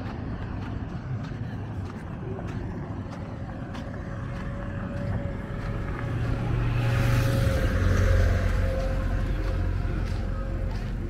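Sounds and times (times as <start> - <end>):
motor vehicle engine hum: 0.0 - 11.0
road noise: 0.0 - 11.0.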